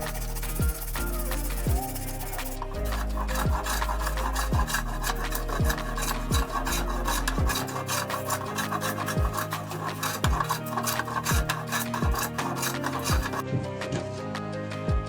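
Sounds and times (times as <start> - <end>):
hand saw cutting wood: 0.0 - 13.4
music with a steady beat: 0.0 - 15.0.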